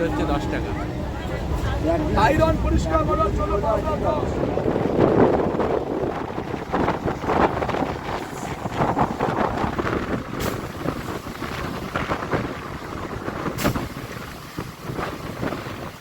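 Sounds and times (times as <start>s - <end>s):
electric train rumbling: 0.0s - 16.0s
wind buffeting microphone: 0.0s - 16.0s.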